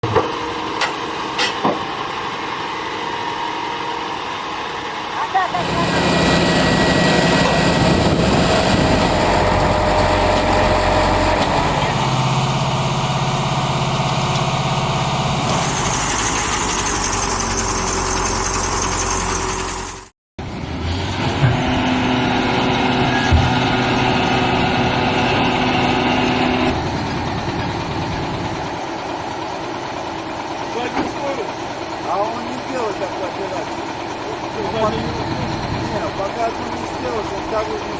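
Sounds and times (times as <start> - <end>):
truck diesel engines running: 0.0 - 37.9.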